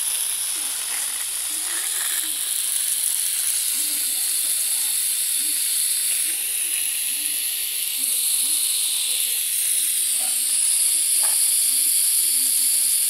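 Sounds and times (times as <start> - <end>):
hose nozzle spraying water: 0.0 - 13.0
water spraying on leaf litter: 0.0 - 13.0.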